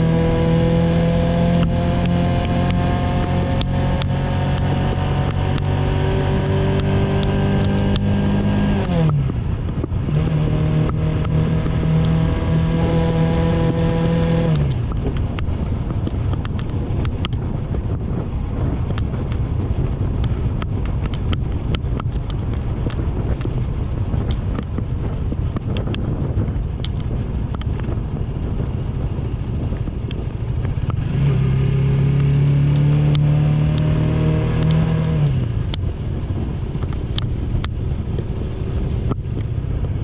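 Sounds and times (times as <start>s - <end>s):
motorcycle engine running: 0.0s - 40.0s
road rumble: 0.0s - 40.0s
wind buffeting microphone: 0.0s - 40.0s.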